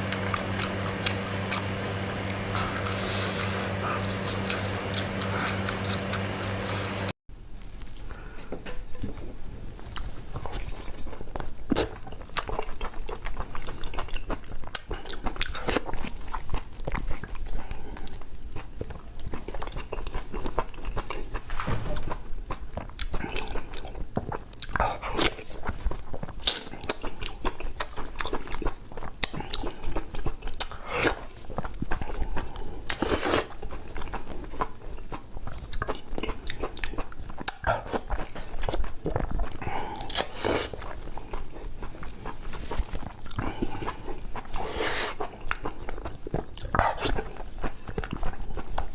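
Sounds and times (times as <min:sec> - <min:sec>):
person chewing food: 0:00.0 - 0:07.1, 0:07.8 - 0:48.9.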